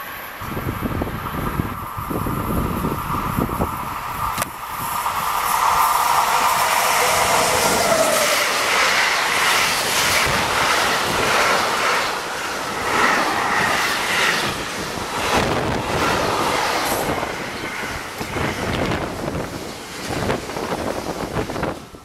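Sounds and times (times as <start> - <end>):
freight train rolling rumble: 0.0 - 22.0.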